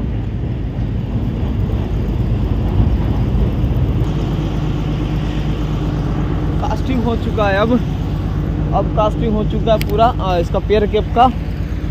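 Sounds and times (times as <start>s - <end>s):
low machine rumble: 0.0s - 11.9s.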